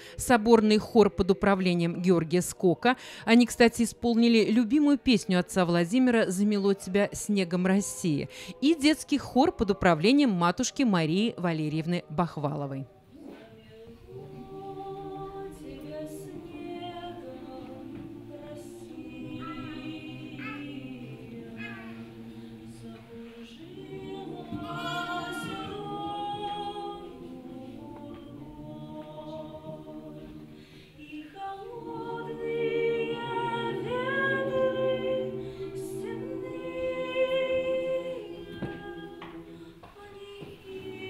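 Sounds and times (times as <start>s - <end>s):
mixed choir singing: 0.0s - 41.0s.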